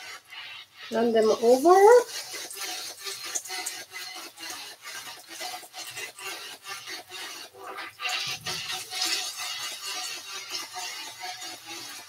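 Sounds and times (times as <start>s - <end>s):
croquettes sizzling in oil: 0.0s - 12.0s.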